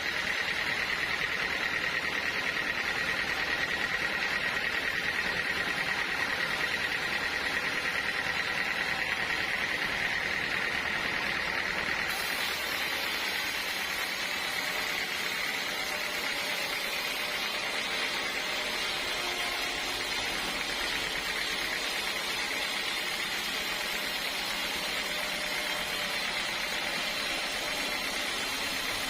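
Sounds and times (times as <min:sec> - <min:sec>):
sawmill saw whining: 0:00.0 - 0:29.0.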